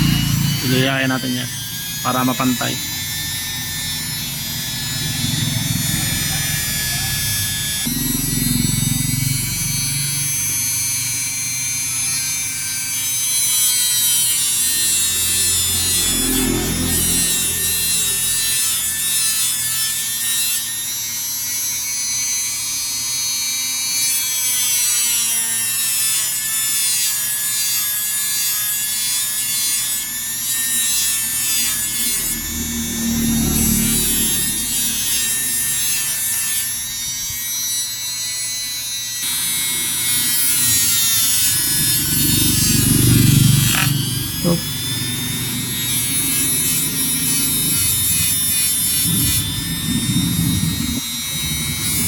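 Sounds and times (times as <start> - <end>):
sandpaper on metal tube: 0.0 - 7.9, 12.1 - 52.0.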